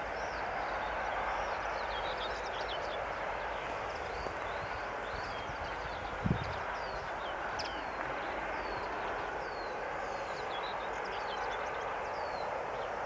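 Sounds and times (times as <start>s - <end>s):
distant locomotive rushing noise: 0.0s - 13.0s
small birds chirping: 0.1s - 13.0s.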